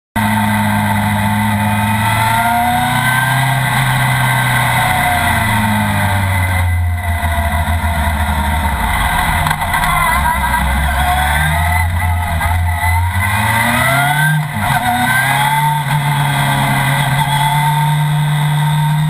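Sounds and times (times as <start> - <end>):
motorcycle engine revving: 0.2 - 19.0.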